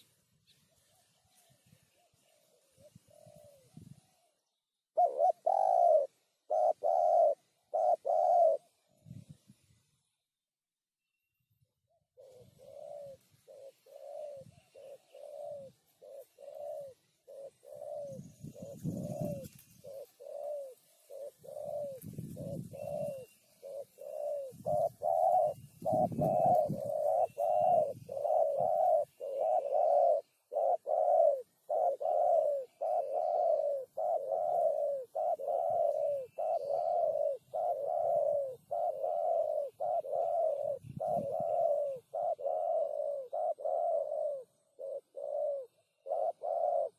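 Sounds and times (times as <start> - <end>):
dove cooing: 0.0 - 9.6, 11.9 - 46.9.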